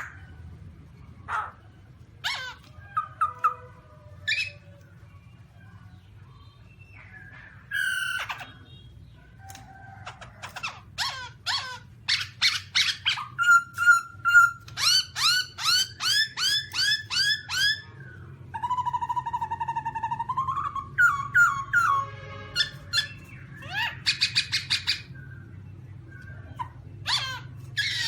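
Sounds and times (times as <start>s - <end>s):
bird calling: 1.2s - 5.0s, 6.7s - 28.0s.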